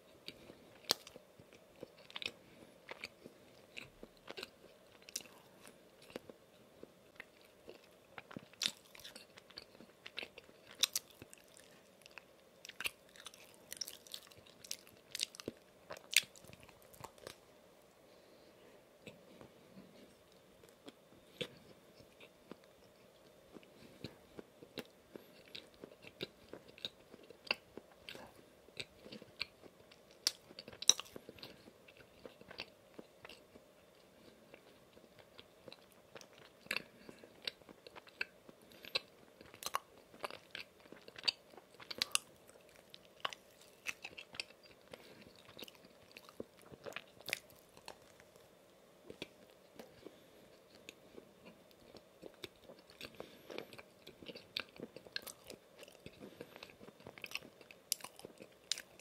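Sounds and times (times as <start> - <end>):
chewing with wet mouth clicks: 7.1 - 17.4, 20.6 - 48.4, 49.1 - 59.0.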